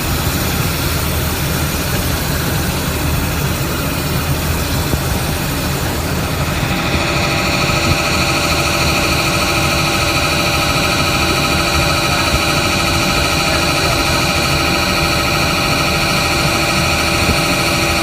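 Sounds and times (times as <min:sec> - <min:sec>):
lathe machine hum: 0:00.0 - 0:18.0.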